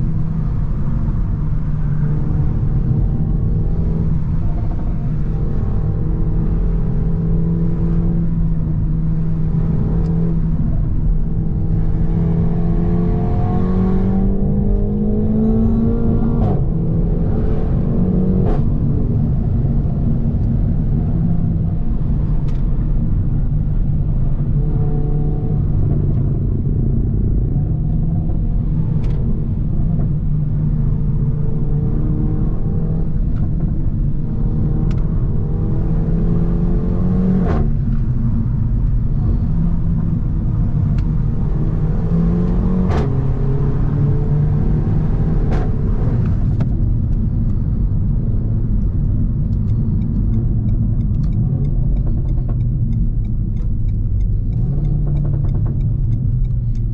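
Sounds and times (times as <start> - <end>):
car engine driving: 0.0 - 56.9.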